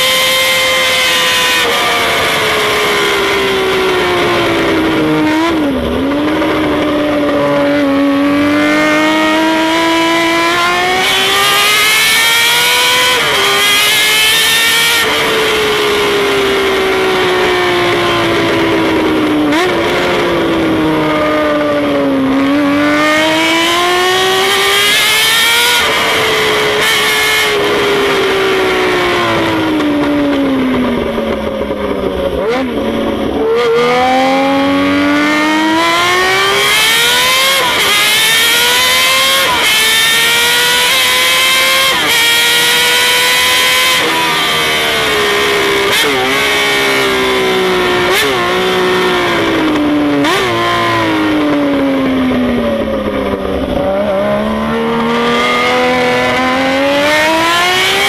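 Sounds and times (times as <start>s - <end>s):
motorcycle engine at speed: 0.0s - 58.0s.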